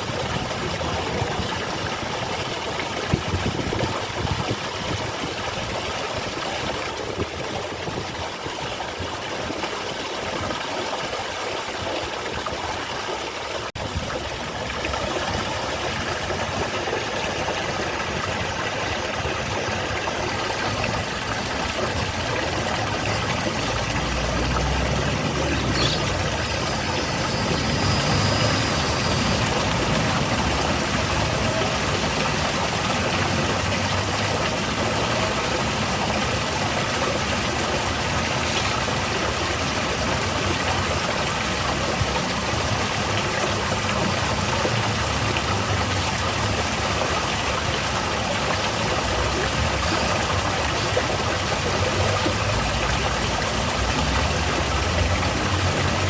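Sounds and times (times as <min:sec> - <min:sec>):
water falling into a pool: 0:00.0 - 0:56.0.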